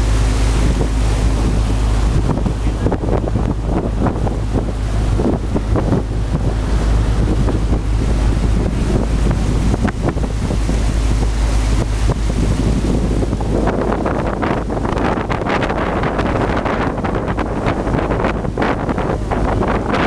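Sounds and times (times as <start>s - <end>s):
boat engine drone: 0.0s - 20.0s
wake rushing: 0.0s - 20.0s
wind buffeting microphone: 0.0s - 20.0s.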